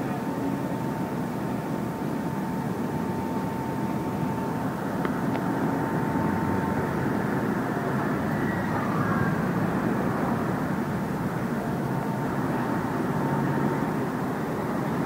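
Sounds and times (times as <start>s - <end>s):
diesel engine running under load: 0.0s - 15.0s
thin steady whine: 0.0s - 15.0s.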